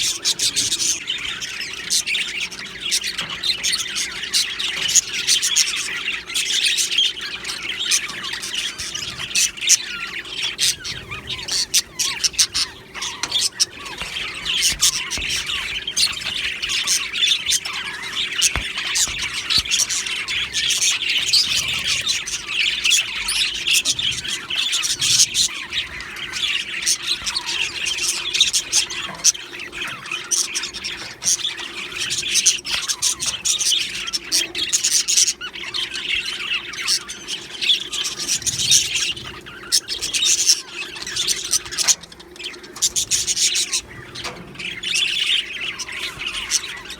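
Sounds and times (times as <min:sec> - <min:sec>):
flock of budgerigars chattering: 0:00.0 - 0:46.9.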